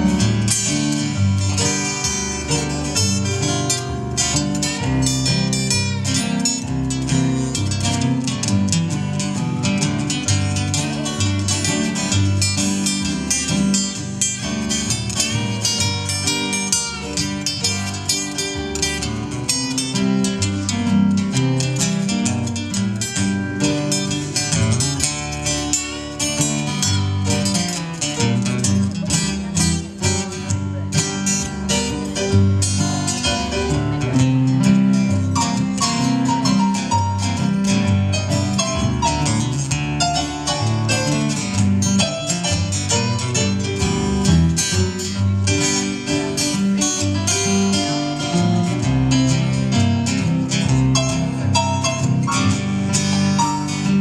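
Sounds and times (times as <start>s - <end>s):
acoustic guitars playing blues: 0.0s - 54.0s.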